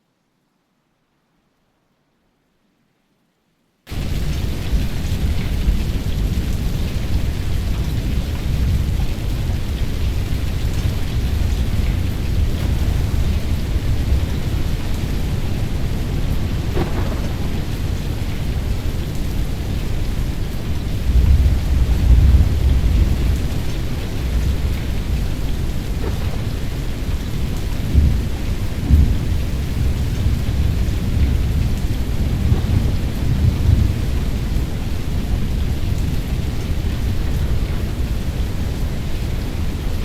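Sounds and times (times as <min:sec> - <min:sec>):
steady rain hiss: 0:00.0 - 0:40.0
low thunder rumble: 0:03.9 - 0:39.8.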